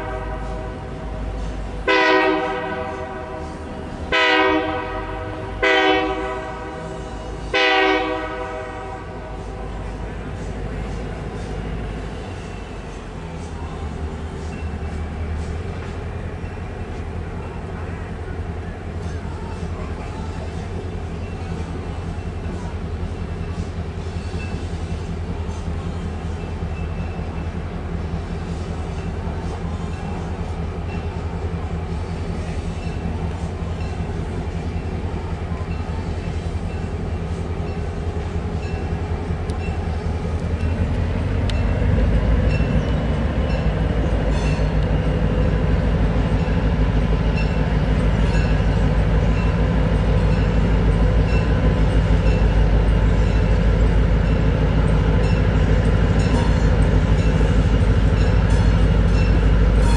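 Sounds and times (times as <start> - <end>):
locomotive engine rumbling: 0.0 - 59.9.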